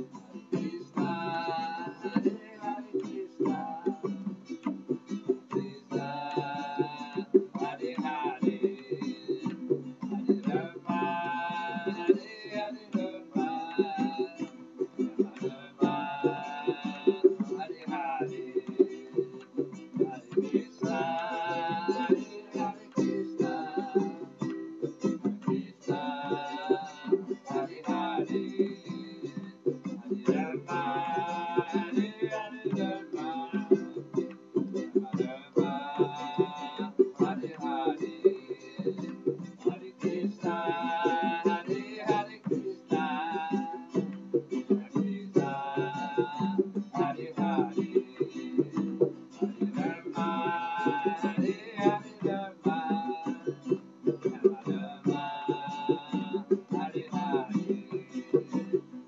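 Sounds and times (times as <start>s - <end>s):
person singing long notes: 0.0s - 4.8s, 5.4s - 59.0s
plucked string instrument rhythm: 0.0s - 59.0s.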